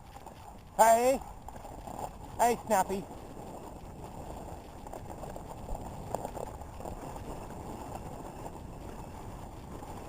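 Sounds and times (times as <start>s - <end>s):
dog sled rushing along trail: 0.0s - 10.0s.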